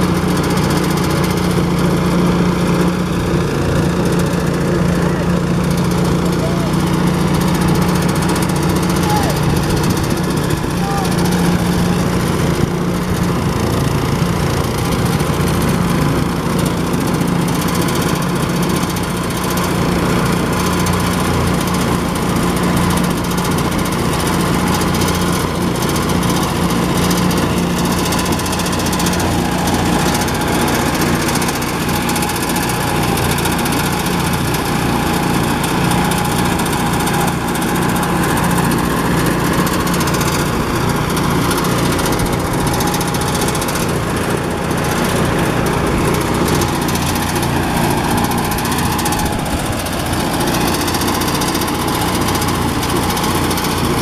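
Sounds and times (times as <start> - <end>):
thresher engine drone: 0.0 - 54.0.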